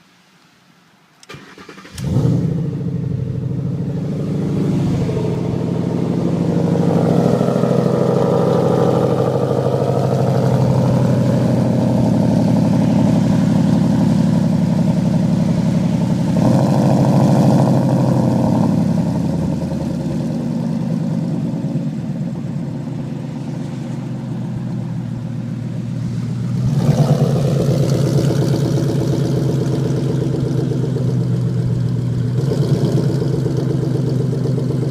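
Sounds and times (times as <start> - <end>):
car engine idling: 1.2 - 34.9.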